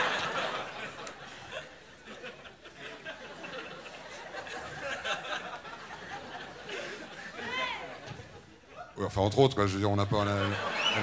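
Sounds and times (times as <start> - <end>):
studio audience laughing: 0.0 - 8.6, 10.0 - 11.0.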